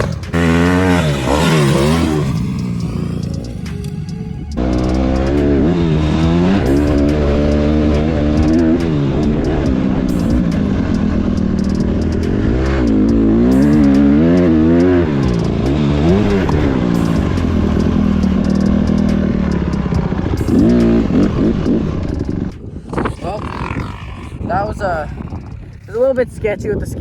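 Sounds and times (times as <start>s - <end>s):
dirt bike engine revving: 0.0s - 26.1s.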